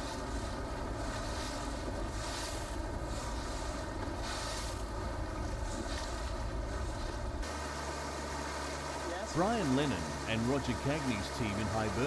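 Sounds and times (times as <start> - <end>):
water rushing past boat: 0.0 - 12.0.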